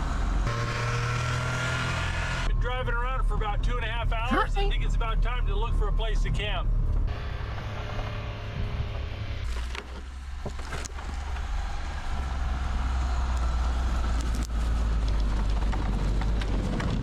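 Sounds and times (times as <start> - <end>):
small truck engine rumbling: 0.0 - 17.0.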